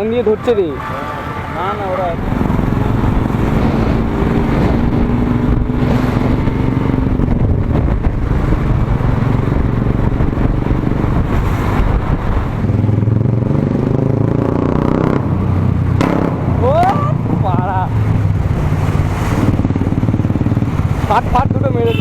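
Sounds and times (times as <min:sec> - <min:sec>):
road noise: 0:00.0 - 0:22.0
rushing wind: 0:00.0 - 0:22.0
motorcycle engine accelerating: 0:02.0 - 0:22.0.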